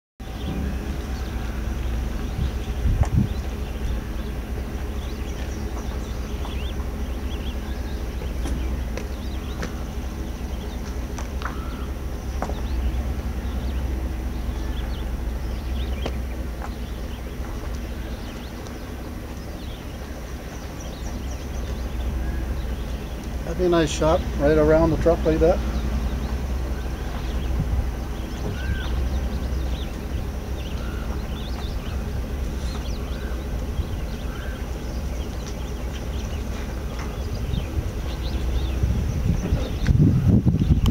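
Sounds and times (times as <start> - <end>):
birds chirping: 0.2 - 40.9
truck diesel engine idling: 0.2 - 40.9
wind rumbling on microphone: 0.2 - 40.9.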